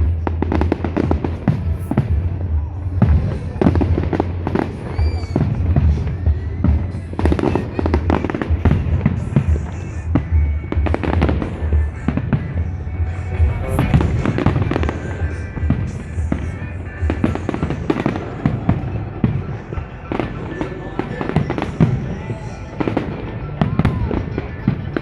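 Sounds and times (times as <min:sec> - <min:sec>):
fireworks bangs and crackles: 0:00.0 - 0:25.0
music playing: 0:00.0 - 0:25.0.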